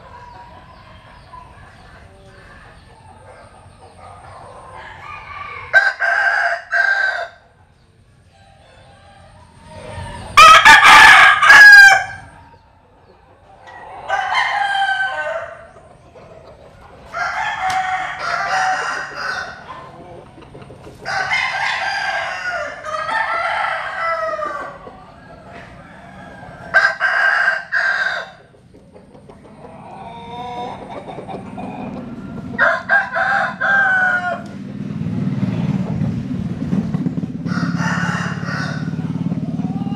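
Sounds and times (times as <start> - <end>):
roosters crowing: 0.0 - 39.9.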